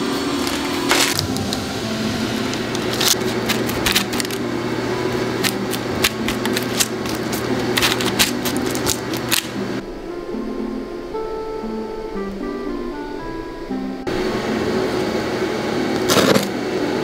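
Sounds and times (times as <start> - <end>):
steady low hum: 0.0 - 17.0
light background music: 0.4 - 15.7.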